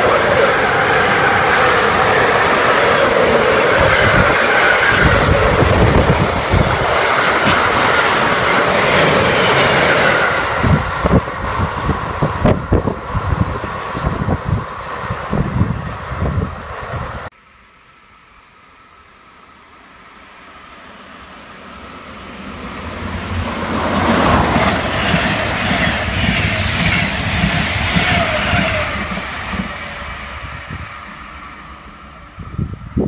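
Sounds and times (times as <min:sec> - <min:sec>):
train passing: 0:00.0 - 0:33.0.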